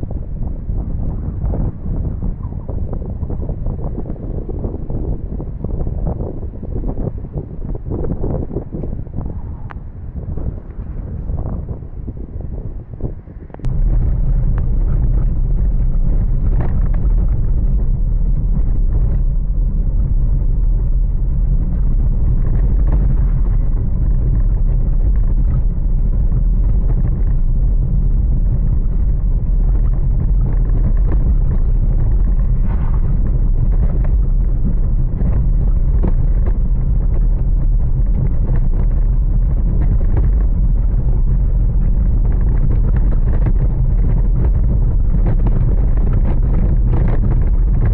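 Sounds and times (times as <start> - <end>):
strong wind buffeting microphone: 0.0 - 47.9.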